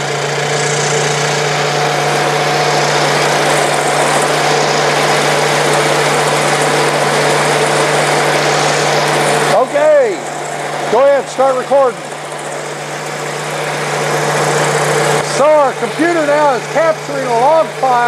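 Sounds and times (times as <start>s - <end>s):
engine running at full throttle: 0.0s - 18.0s.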